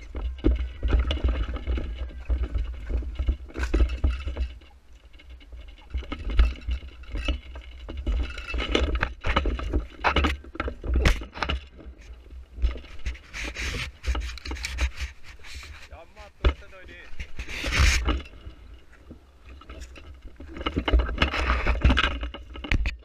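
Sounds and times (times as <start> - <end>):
clothing and gear rustling: 0.0 - 22.7
constant low rumble: 0.0 - 23.0.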